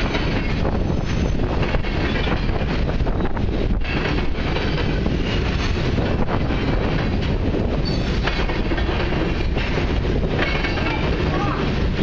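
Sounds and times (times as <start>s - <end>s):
freight train wheels rumbling: 0.0s - 12.0s
train wheel clacks: 0.0s - 12.0s.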